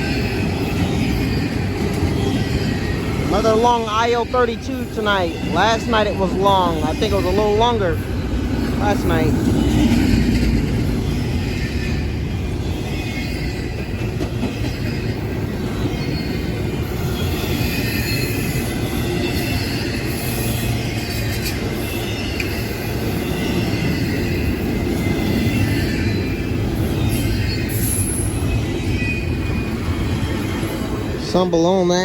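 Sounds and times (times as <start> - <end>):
freight train rumbling and rattling: 0.0 - 32.0.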